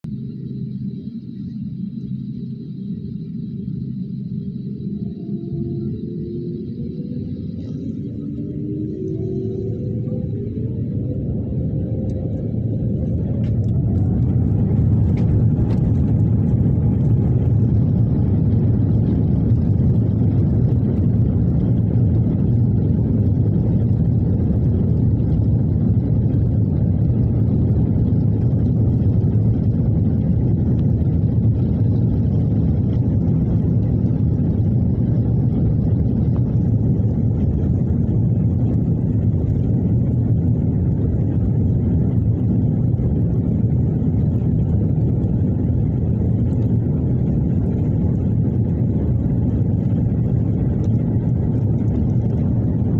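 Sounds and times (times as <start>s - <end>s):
jet engine rumble from cabin: 0.0s - 52.9s
jet engine whine: 0.0s - 52.9s.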